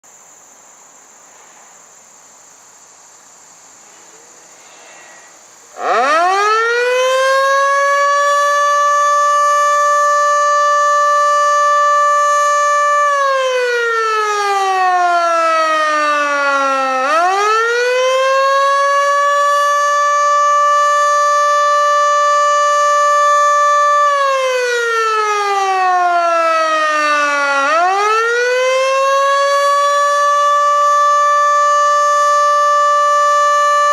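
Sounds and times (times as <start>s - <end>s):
warning siren wailing: 5.8s - 33.9s.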